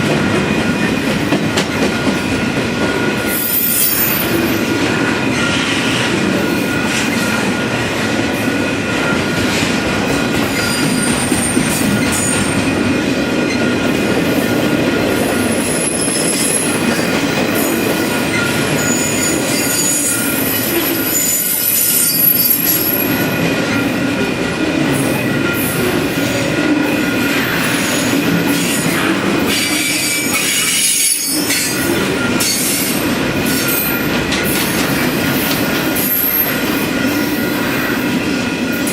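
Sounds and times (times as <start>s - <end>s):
freight train rumbling on rails: 0.0s - 38.9s
train wheel squeal: 0.6s - 12.8s, 13.4s - 24.1s, 25.0s - 38.9s.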